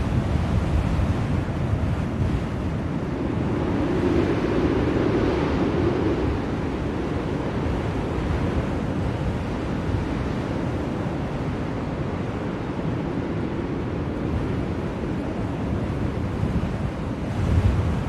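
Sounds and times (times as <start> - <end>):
blizzard wind blowing: 0.0 - 18.0.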